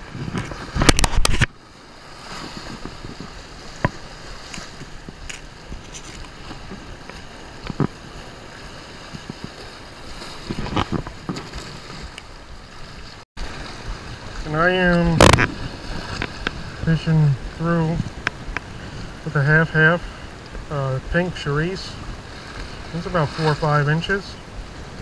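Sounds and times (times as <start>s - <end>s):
waves splashing against rocks: 0.0s - 25.0s
wind on the microphone: 0.0s - 25.0s.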